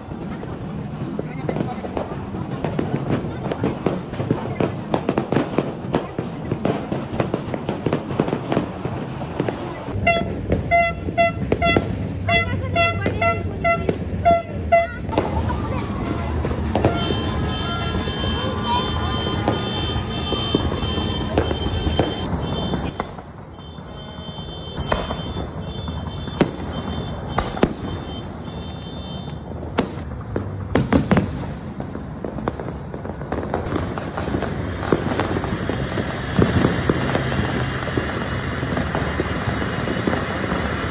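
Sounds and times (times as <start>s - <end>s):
fireworks banging: 0.0s - 40.9s.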